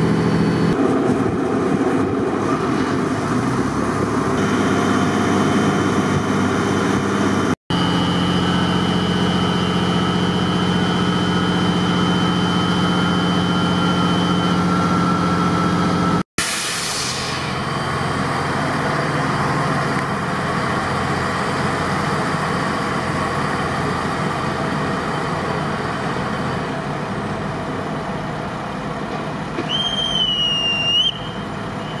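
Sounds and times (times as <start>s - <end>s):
diesel railcar running: 0.0s - 32.0s.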